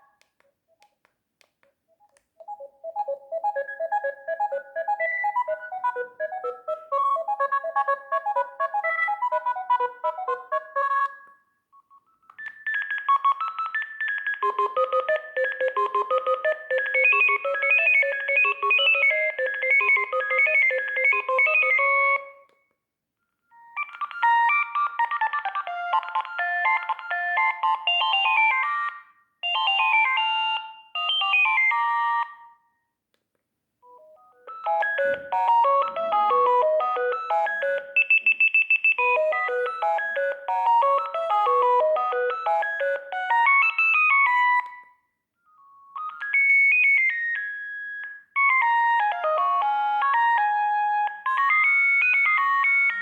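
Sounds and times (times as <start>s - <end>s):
mobile phone electronic ringtone: 2.4s - 11.2s, 12.4s - 22.4s, 23.6s - 32.6s, 33.9s - 45.0s, 46.0s - 53.0s.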